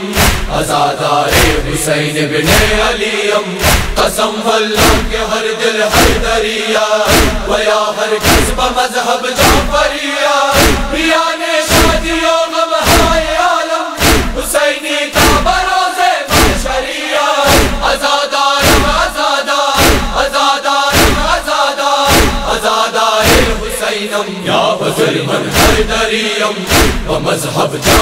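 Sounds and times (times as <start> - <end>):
rhythmic chest-beating slaps: 0.0 - 24.2, 25.3 - 28.0
men chanting in unison: 0.0 - 28.0.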